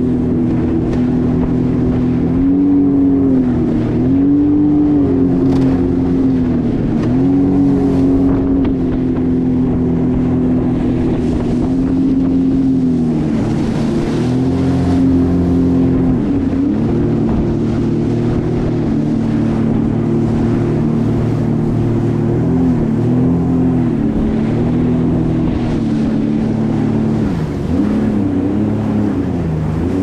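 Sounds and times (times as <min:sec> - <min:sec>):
jet ski engine drone: 0:00.0 - 0:30.0.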